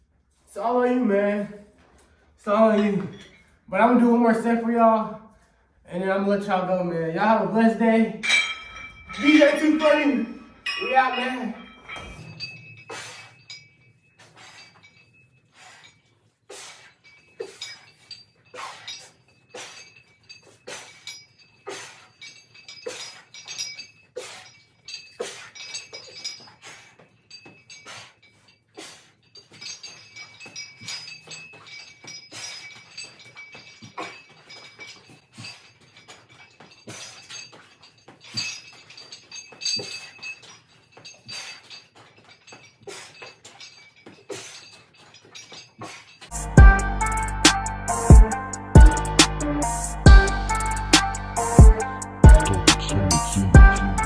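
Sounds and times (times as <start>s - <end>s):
exercise equipment clinking: 1.8s - 5.1s, 7.2s - 48.2s.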